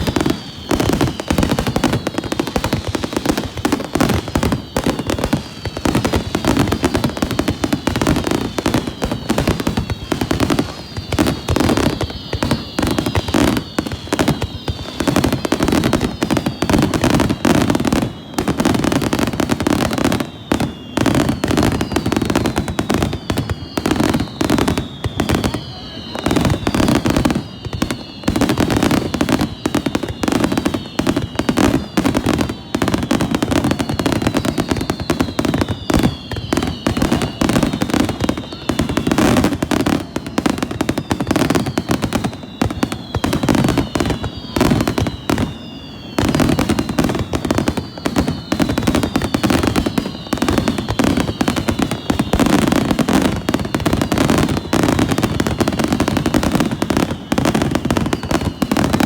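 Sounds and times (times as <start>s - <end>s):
falling whistling fireworks: 0.0s - 59.0s
fireworks bangs and crackles: 0.0s - 59.0s.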